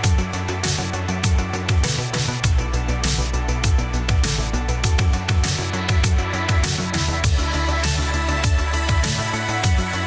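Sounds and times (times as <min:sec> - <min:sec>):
electronic music with fast drum beat: 0:00.0 - 0:10.0.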